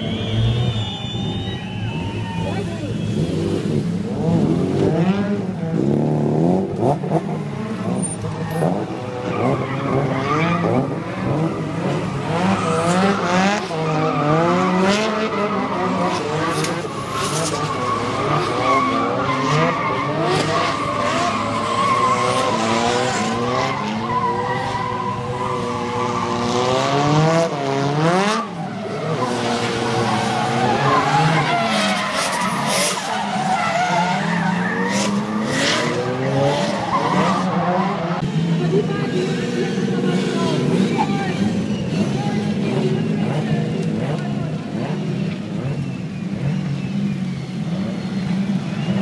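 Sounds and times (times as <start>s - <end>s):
tyres squealing and skidding: 0.0s - 5.4s, 6.9s - 49.0s
car engines revving: 0.0s - 49.0s.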